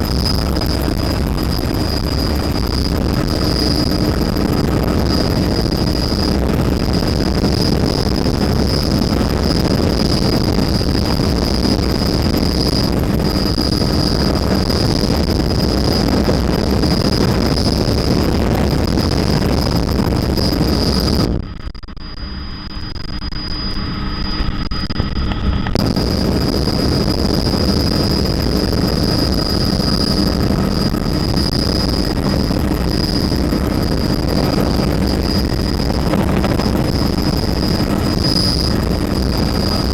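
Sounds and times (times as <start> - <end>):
helicopter engine and rotor drone: 0.0 - 39.9
high whine: 0.0 - 39.9.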